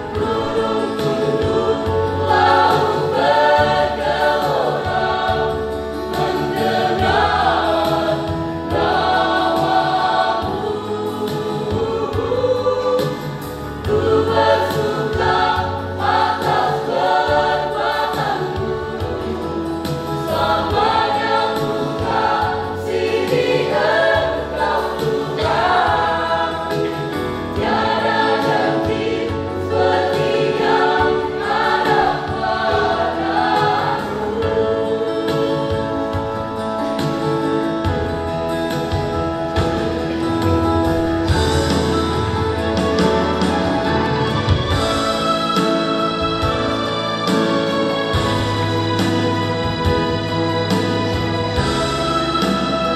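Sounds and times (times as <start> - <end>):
choir singing a hymn in harmony: 0.0 - 52.9.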